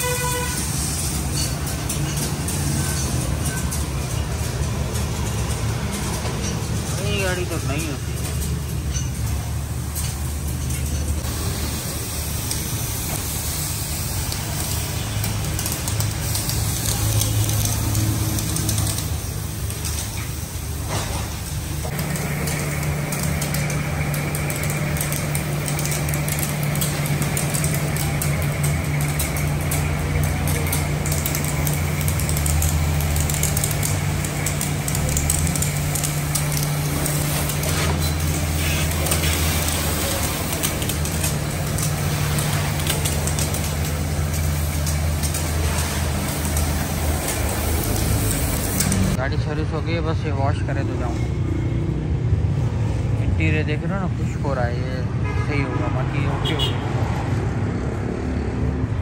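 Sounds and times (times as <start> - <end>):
pressure washer motor hum: 0.0 - 49.2
water jet spraying on car: 0.0 - 49.2.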